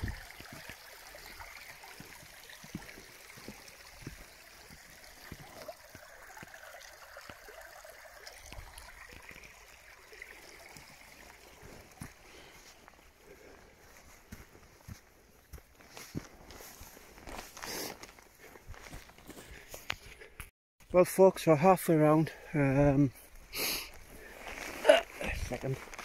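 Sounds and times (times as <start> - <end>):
stream trickling over stones: 0.0 - 20.3, 20.9 - 26.0.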